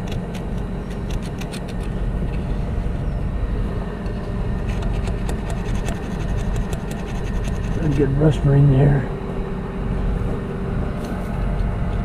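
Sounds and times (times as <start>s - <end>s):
steady low drone: 0.0s - 12.0s.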